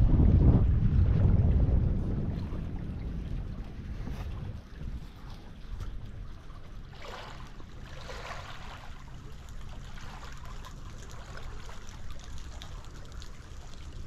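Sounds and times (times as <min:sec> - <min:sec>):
rushing water: 0:00.0 - 0:14.0
wind rumbling on microphone: 0:00.0 - 0:14.0.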